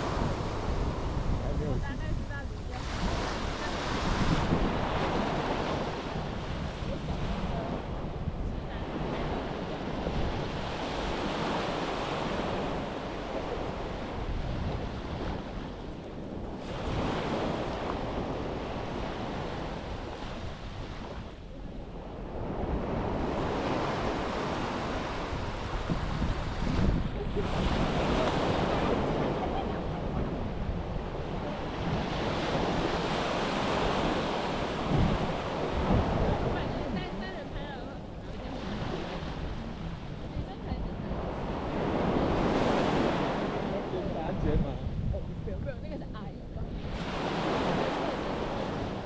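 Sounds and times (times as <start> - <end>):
surf breaking on beach: 0.0 - 49.0
wind buffeting microphone: 0.0 - 49.0.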